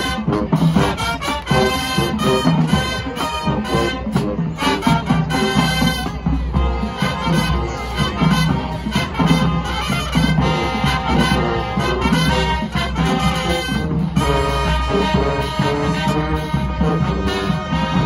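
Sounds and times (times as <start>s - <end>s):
marching band brass playing: 0.0s - 18.0s.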